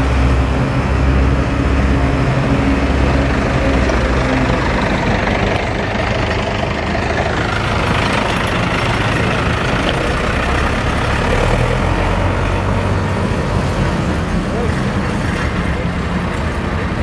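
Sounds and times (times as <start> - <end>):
diesel tractor engines running: 0.0 - 17.0.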